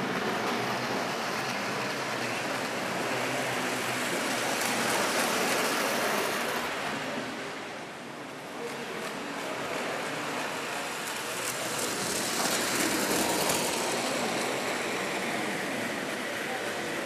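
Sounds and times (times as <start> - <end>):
model trains rolling on metal track: 0.0 - 17.0.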